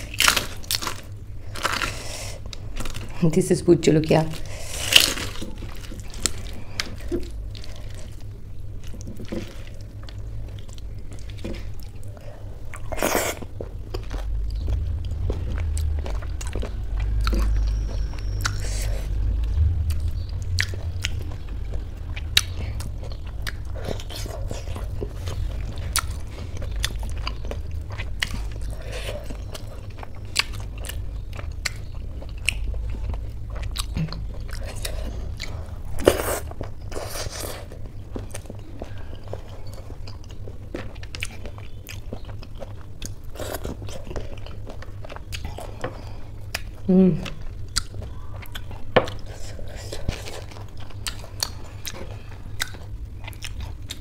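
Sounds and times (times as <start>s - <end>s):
person chewing food: 0.0s - 3.2s, 4.4s - 54.0s.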